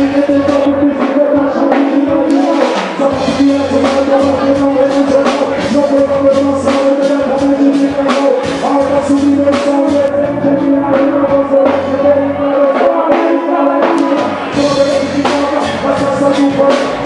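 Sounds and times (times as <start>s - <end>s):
loud reggae music: 0.0s - 17.0s.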